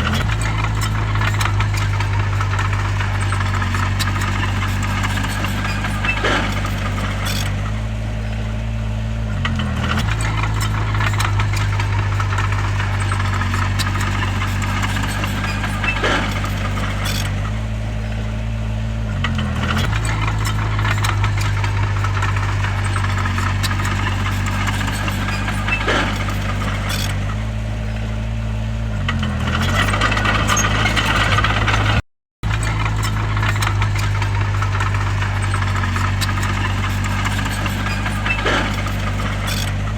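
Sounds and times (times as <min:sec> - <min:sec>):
sharp metal clanks and rattles: 0:00.0 - 0:08.4, 0:09.4 - 0:18.3, 0:19.2 - 0:28.2, 0:29.0 - 0:39.9
bulldozer diesel engine: 0:00.0 - 0:39.9.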